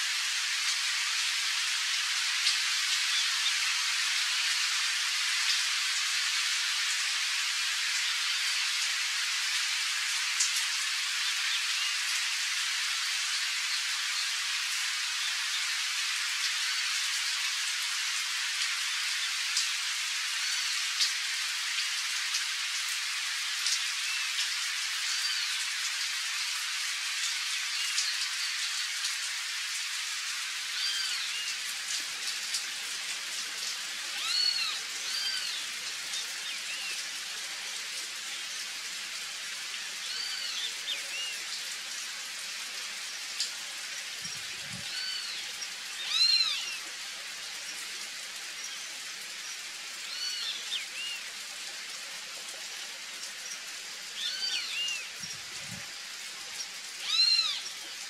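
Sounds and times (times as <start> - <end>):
rain falling on water: 0.0 - 58.0.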